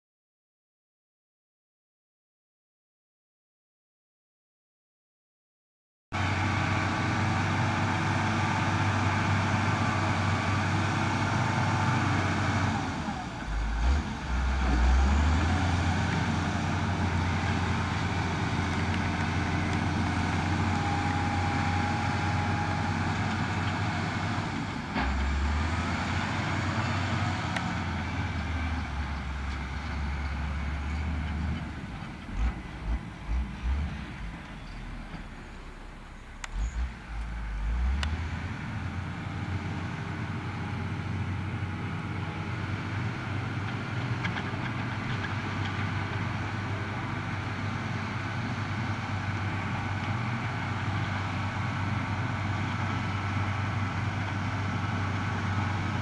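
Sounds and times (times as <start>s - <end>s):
diesel engine running: 6.2s - 56.0s.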